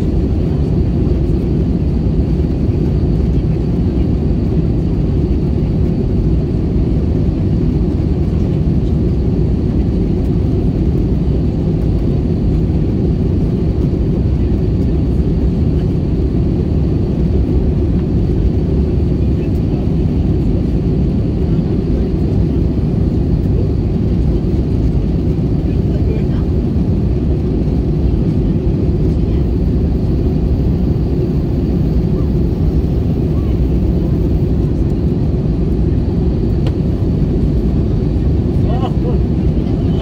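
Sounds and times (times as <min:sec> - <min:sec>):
jet engines and rushing air: 0:00.0 - 0:40.0.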